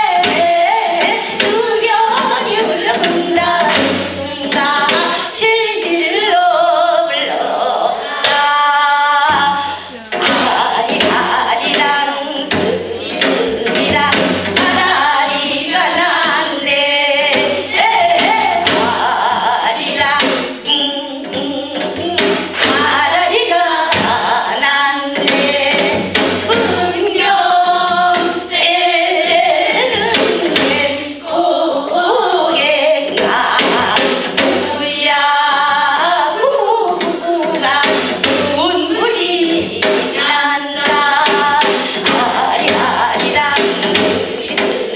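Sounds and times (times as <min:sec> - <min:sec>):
steady drum strokes: 0:00.0 - 0:44.9
women singing folk song: 0:00.0 - 0:44.9.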